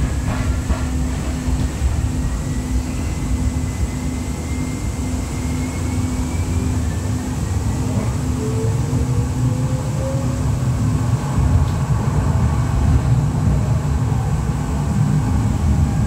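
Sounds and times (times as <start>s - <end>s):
wheels rumbling on track: 0.0s - 16.0s.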